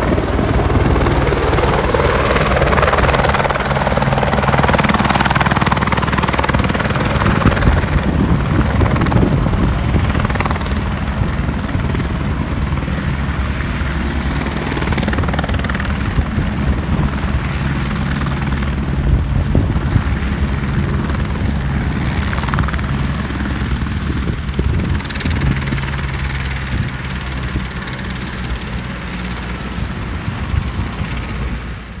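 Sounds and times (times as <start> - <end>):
helicopter rotor beat: 0.0 - 32.0.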